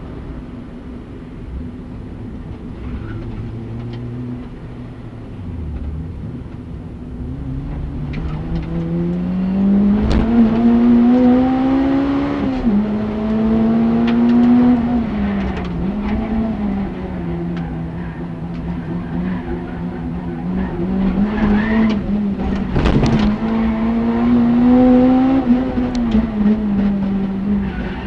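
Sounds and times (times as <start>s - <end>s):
car engine accelerating: 2.4s - 28.0s.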